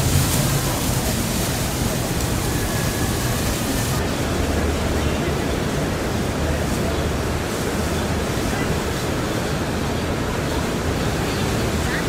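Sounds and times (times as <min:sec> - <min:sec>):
faint voices of passers-by: 0:00.0 - 0:12.0
traffic: 0:00.0 - 0:12.0
wind: 0:00.0 - 0:12.0.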